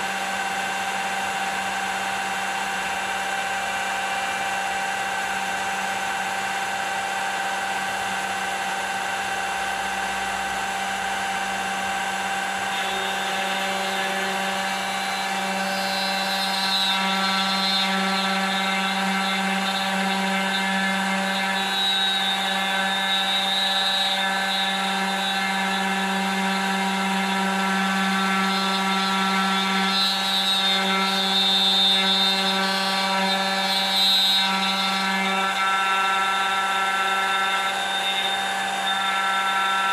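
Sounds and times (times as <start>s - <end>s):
router bit cutting: 0.0s - 39.9s
spindle motor whining: 0.0s - 39.9s.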